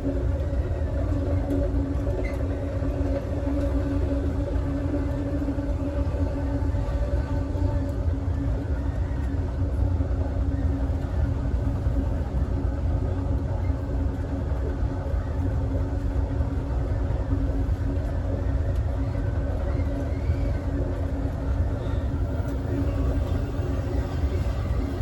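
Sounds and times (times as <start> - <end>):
constant hum: 0.0 - 25.0
train car rumbling on track: 0.0 - 25.0.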